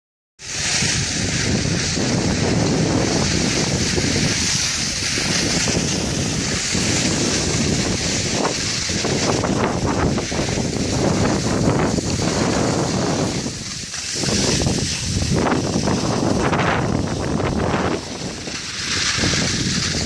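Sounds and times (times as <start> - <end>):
steady rushing hiss: 0.4 - 20.0
wind gusting on microphone: 0.4 - 20.0.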